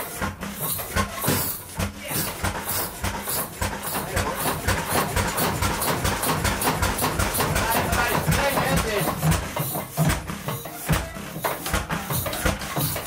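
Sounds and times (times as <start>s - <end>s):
marine engine knocking: 0.0s - 13.0s.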